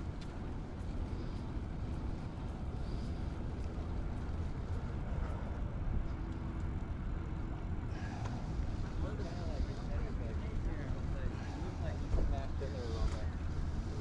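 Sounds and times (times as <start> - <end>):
wind and road rumble: 0.0 - 14.0.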